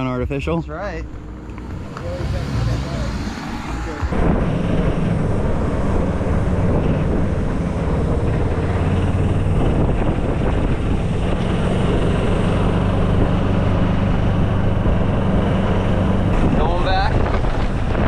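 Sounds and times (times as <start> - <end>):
road noise: 0.0 - 18.0
wind on microphone: 3.1 - 18.0.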